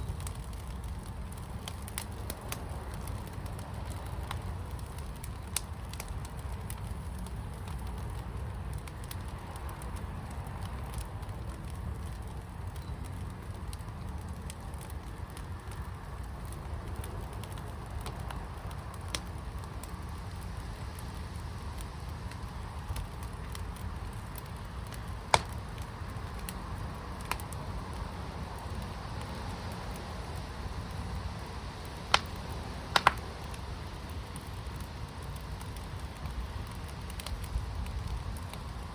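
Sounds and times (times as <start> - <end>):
fire crackles and pops: 0.0 - 38.9
fire rumbling: 0.0 - 38.9.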